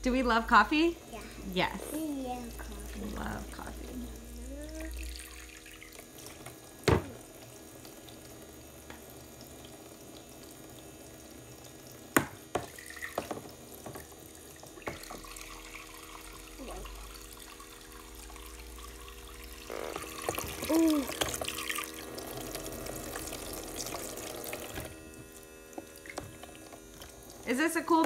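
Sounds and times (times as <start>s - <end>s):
faint steady hum: 0.0s - 28.0s
water running into plastic basin: 0.5s - 28.0s.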